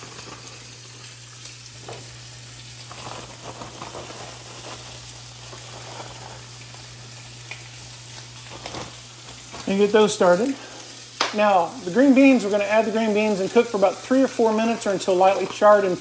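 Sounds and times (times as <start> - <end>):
beans sizzling in oil: 0.0 - 16.0
meat searing on grill pan: 0.0 - 16.0.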